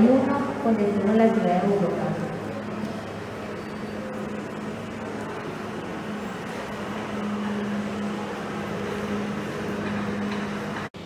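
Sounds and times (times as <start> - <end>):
broad mechanical noise: 0.0 - 11.0
low mechanical hum: 0.0 - 11.0.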